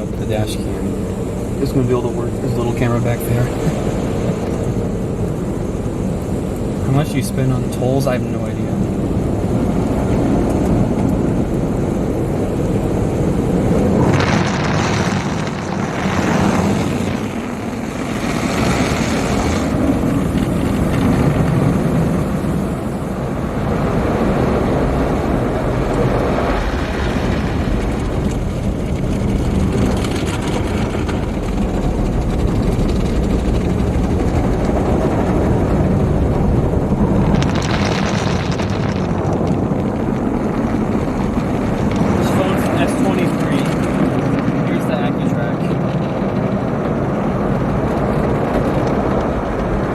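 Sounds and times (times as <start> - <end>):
car wash water and machinery: 0.0 - 49.9.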